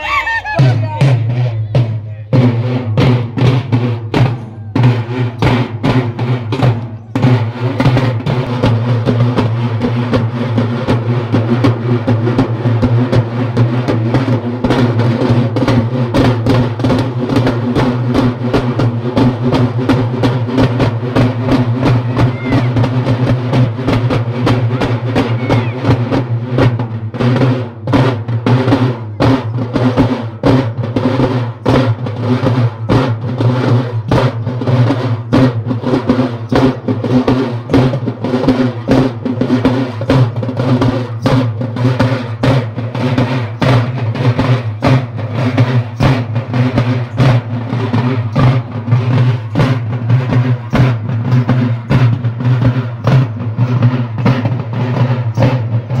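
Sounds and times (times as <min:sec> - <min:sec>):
drum ensemble fast rhythm: 0:00.0 - 0:56.0.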